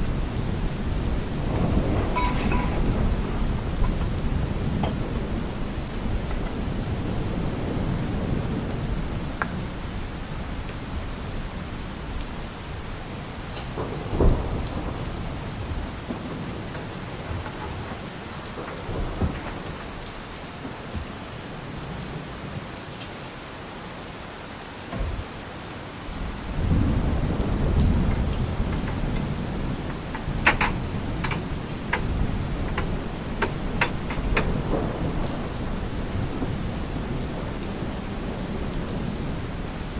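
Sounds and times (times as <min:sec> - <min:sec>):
thunder rolling: 0:00.0 - 0:21.7, 0:26.0 - 0:39.9
steady rain: 0:00.0 - 0:39.9.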